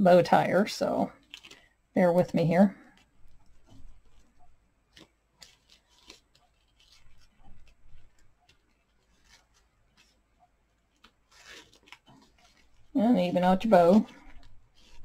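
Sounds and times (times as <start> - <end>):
ribbon rustling: 0.9 - 15.0.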